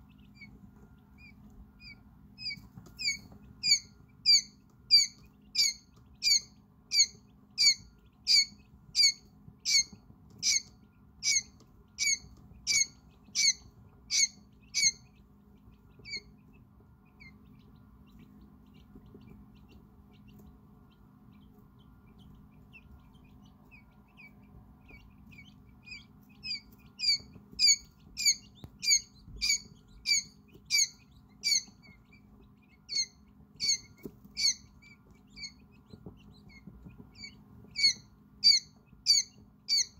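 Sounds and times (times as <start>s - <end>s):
quail chick peeping: 0.0s - 39.9s.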